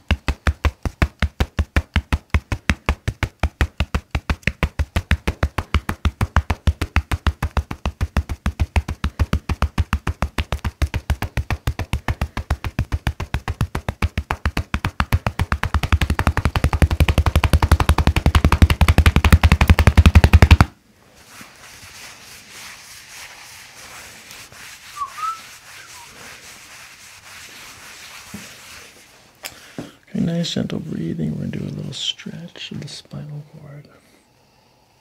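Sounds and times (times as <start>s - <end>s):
hands slapping a back rapidly: 0.0s - 29.1s.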